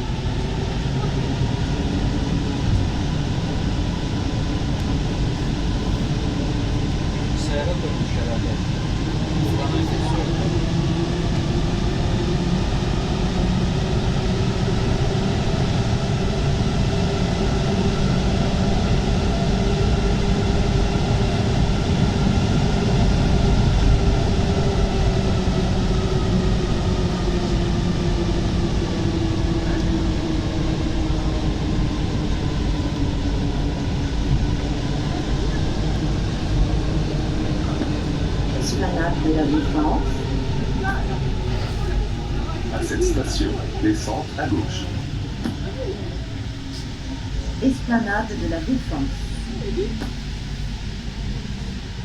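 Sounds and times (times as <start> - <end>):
train rolling rumble: 0.0 - 52.0.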